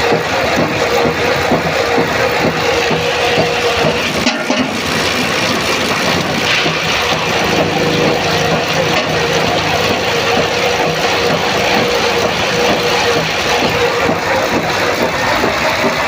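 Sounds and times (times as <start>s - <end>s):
motor-driven machine running: 0.0s - 16.0s.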